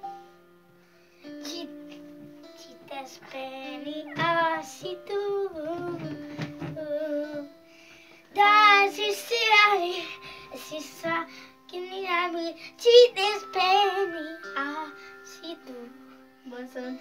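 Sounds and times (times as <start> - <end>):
plucked string music: 0.0 - 17.0
child singing: 1.4 - 1.8, 2.6 - 7.5, 8.3 - 17.0.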